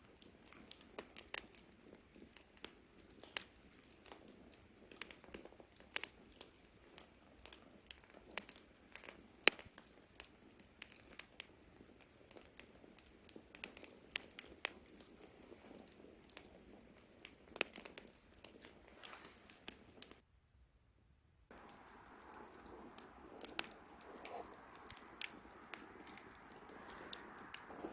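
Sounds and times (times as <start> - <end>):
campfire crackling and popping: 0.0 - 20.2, 21.5 - 27.9.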